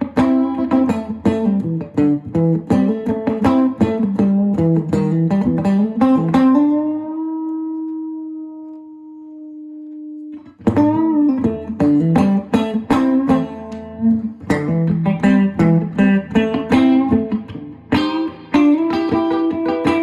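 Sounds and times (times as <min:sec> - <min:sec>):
electric guitar playing: 0:00.0 - 0:20.0.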